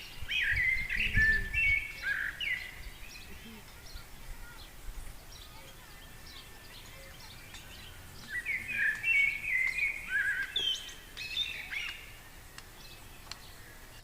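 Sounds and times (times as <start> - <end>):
bird chirping and warbling: 0.0 - 14.0
faint background hiss: 0.0 - 14.0.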